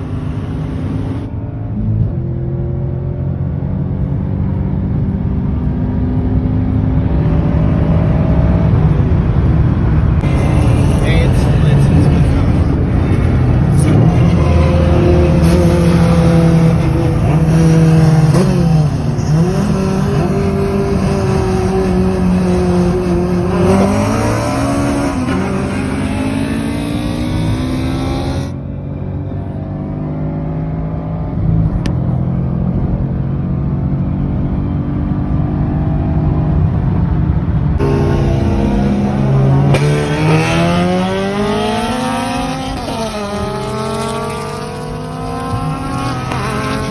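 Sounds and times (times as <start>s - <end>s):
car engine at full throttle: 0.0s - 46.9s.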